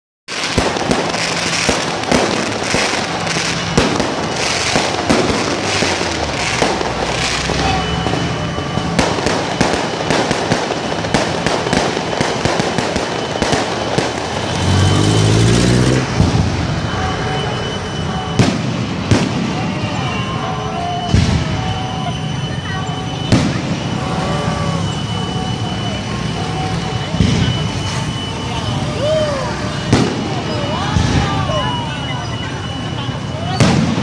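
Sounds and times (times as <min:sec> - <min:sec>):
fireworks crackling: 0:00.3 - 0:34.0
fireworks sharp reports: 0:00.3 - 0:34.0.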